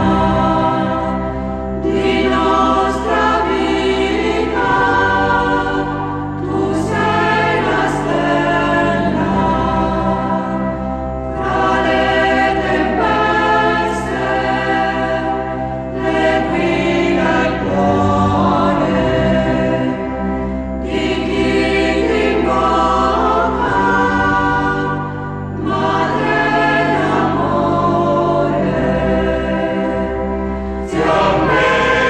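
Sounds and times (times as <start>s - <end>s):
choir singing a slow hymn: 0.0s - 32.0s
steady low drone: 0.0s - 32.0s.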